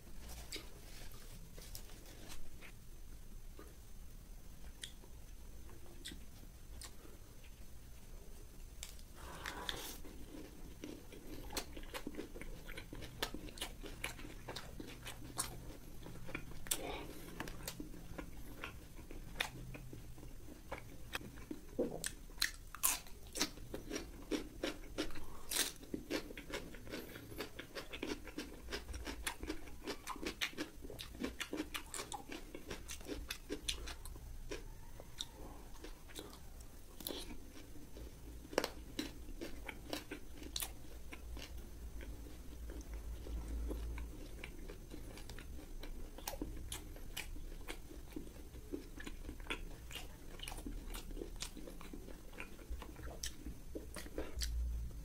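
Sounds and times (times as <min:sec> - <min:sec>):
person chewing crunchy food: 0:00.0 - 0:02.8, 0:08.8 - 0:55.0.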